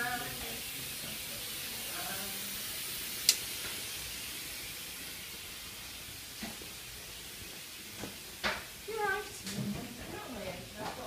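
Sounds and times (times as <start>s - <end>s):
steam hissing from locomotive: 0.0s - 10.8s.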